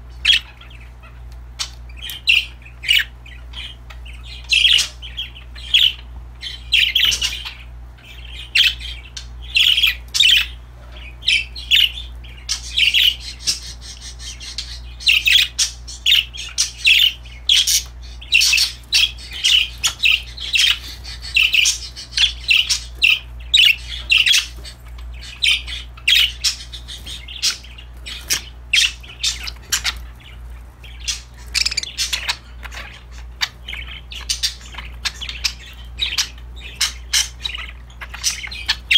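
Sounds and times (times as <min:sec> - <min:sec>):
budgerigars chirping: 0:00.0 - 0:38.9
low steady hum: 0:00.0 - 0:38.9.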